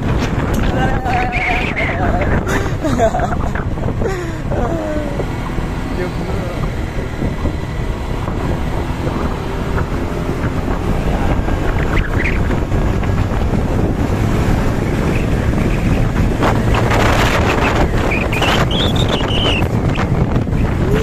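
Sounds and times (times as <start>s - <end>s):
roadside traffic noise: 0.0s - 21.0s
wind buffeting microphone: 0.0s - 21.0s.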